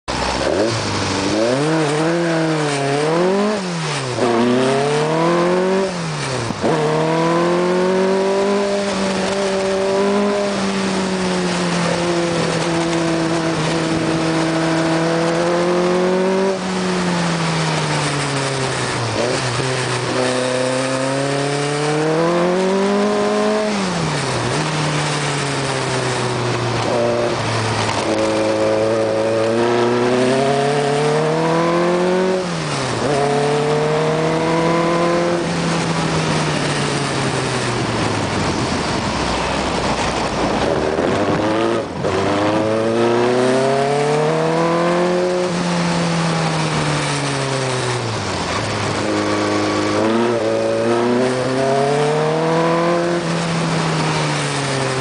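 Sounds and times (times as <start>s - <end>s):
racing car engine revving: 0.1s - 55.0s
wind noise: 0.2s - 55.0s.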